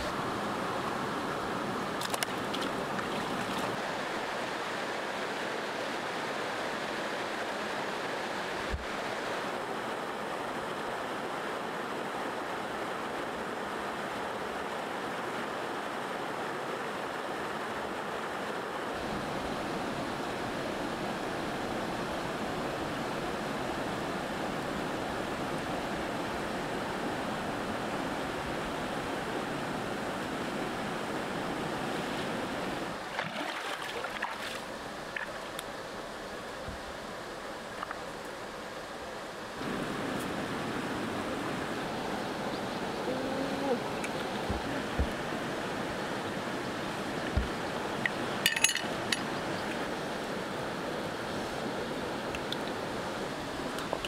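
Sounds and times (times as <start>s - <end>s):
river flowing over rocks: 0.0s - 54.0s.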